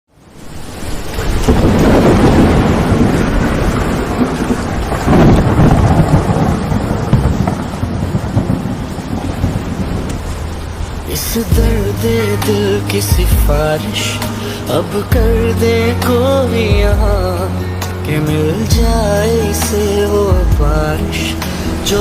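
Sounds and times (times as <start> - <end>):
steady rain: 0.1 - 22.0
rolling thunder: 0.4 - 22.0.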